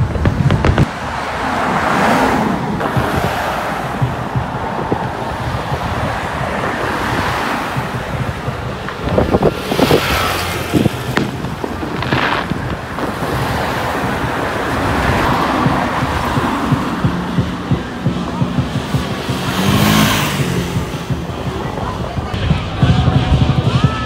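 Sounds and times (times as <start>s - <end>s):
car tyres and engines passing: 0.0s - 24.0s
wind buffeting microphone: 0.0s - 24.0s.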